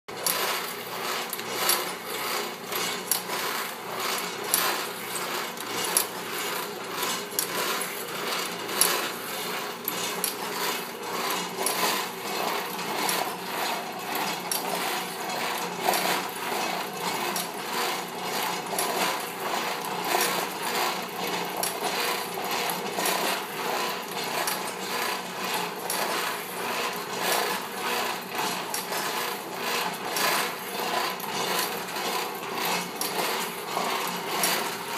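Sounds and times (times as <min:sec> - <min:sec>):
machine whir: 0:00.1 - 0:34.9.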